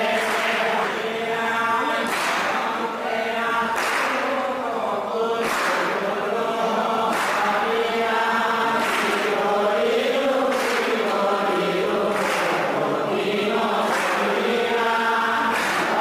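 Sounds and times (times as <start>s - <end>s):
group chanting: 0.0s - 16.0s.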